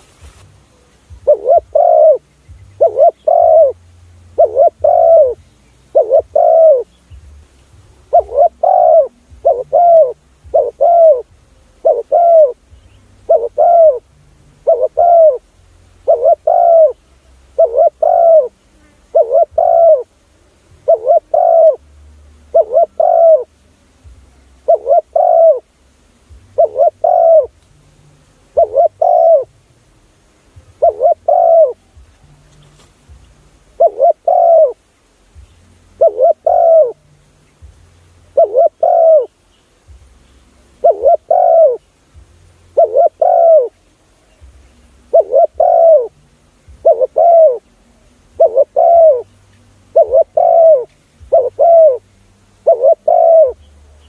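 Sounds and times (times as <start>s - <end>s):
dove cooing: 0.7s - 7.0s, 7.9s - 20.2s, 20.8s - 21.9s, 22.5s - 23.6s, 24.5s - 25.8s, 26.4s - 27.6s, 28.4s - 29.6s, 30.6s - 32.8s, 33.6s - 34.9s, 35.8s - 37.1s, 38.2s - 39.4s, 40.6s - 54.0s.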